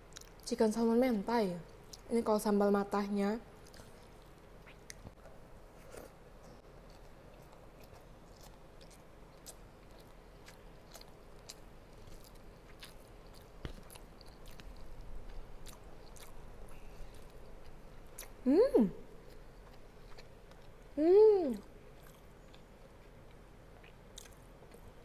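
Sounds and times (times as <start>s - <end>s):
person chewing food: 0.1s - 0.4s, 3.6s - 18.4s, 19.0s - 21.0s, 21.6s - 25.0s.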